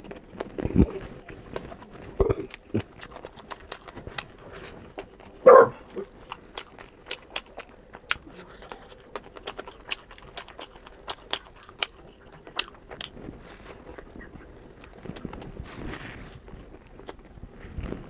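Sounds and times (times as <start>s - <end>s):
chewing and biting: 0.0s - 18.0s.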